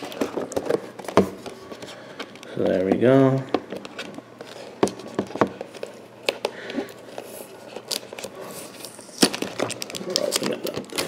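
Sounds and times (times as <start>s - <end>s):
plastic packaging clicks and crinkles: 0.0s - 11.0s.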